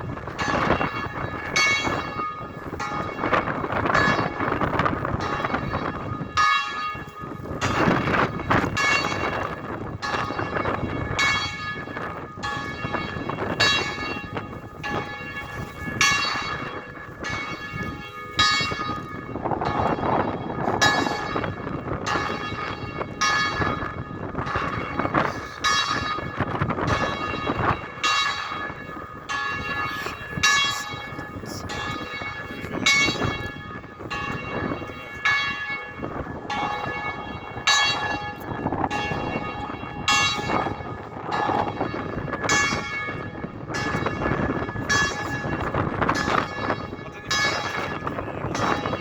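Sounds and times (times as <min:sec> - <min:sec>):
wind buffeting microphone: 0:00.0 - 0:49.0
bells ringing: 0:00.3 - 0:49.0.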